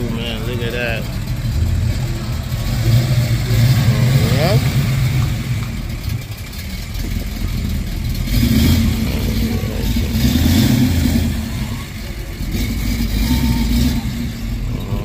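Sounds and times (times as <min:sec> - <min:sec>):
car engine rolling past: 0:00.0 - 0:15.0.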